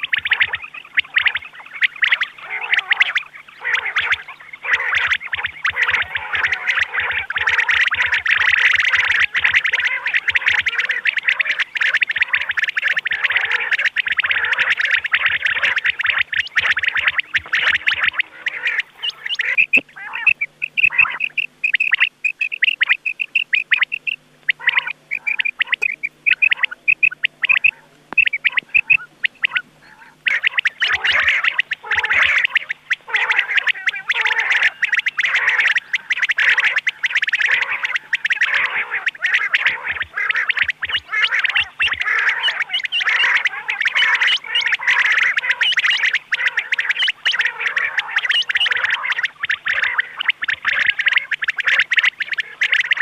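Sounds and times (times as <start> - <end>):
quail calling: 0.0 - 53.0.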